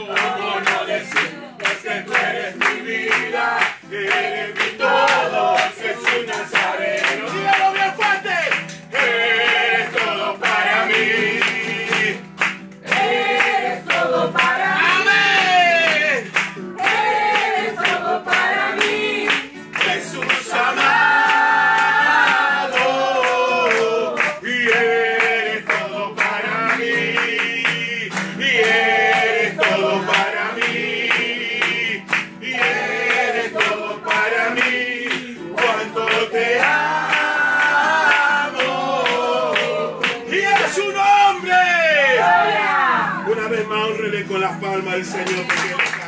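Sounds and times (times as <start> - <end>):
hand clapping: 0.0 - 41.3, 44.7 - 46.0
congregation singing: 0.0 - 46.0.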